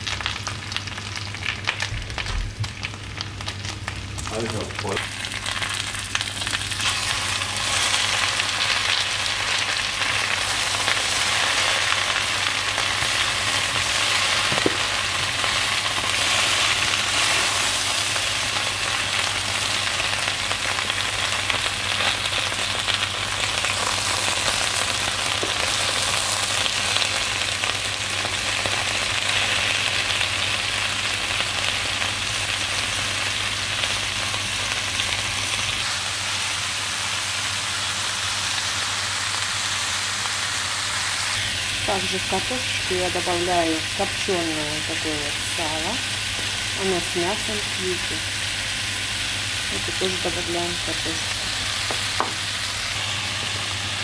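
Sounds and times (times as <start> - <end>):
potatoes sizzling in frying pan: 0.0 - 54.0.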